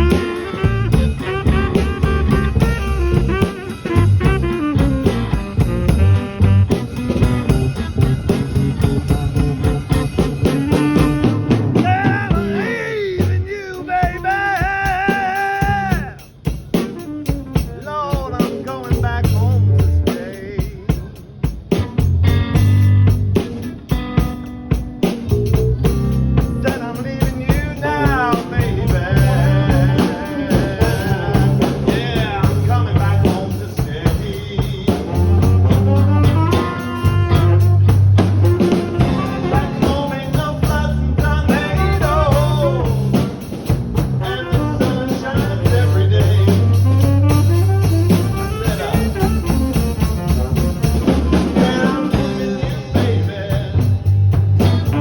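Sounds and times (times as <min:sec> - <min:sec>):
bass guitar: 0:00.0 - 0:55.0
drum kit: 0:00.0 - 0:55.0.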